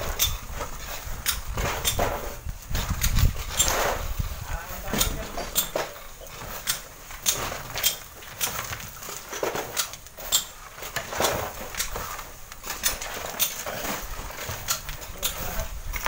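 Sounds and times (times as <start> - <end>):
poles scraping sand cliff: 0.0 - 16.0
sliding sand rustle: 0.0 - 16.0.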